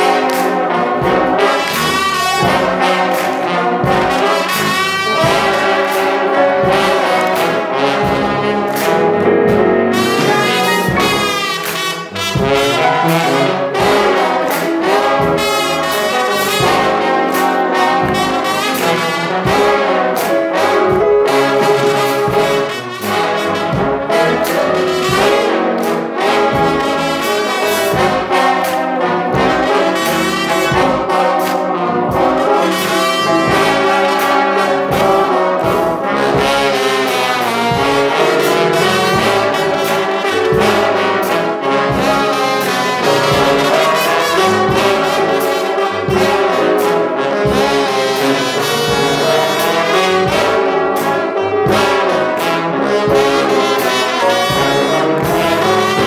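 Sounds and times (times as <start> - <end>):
gospel brass band playing: 0.0 - 56.0.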